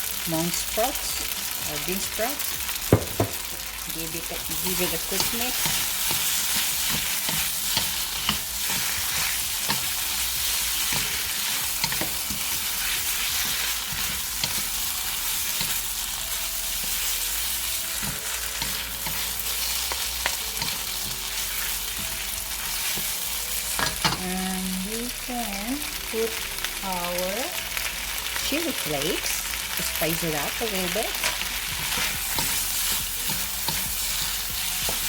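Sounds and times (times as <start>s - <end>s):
noodles sizzling in a hot pan: 0.0s - 35.0s.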